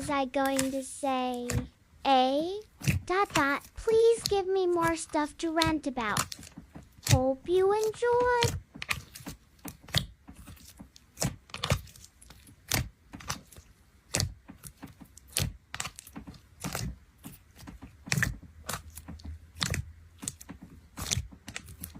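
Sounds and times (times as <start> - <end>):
sharp clicks and taps: 0.0 - 1.8, 2.6 - 21.9.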